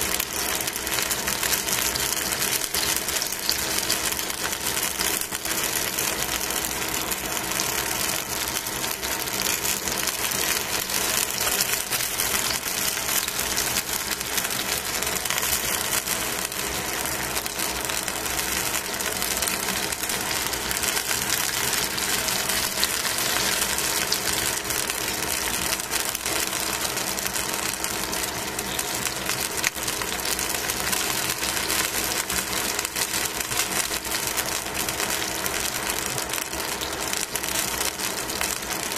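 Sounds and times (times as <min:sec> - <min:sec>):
fat sizzling and crackling in pan: 0:00.0 - 0:38.9.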